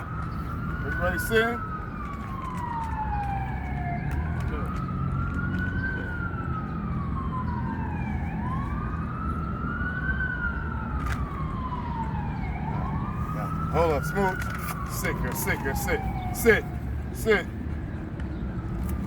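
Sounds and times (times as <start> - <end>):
fainter second siren wail: 0.0 - 17.7
emergency siren wailing: 0.0 - 19.0.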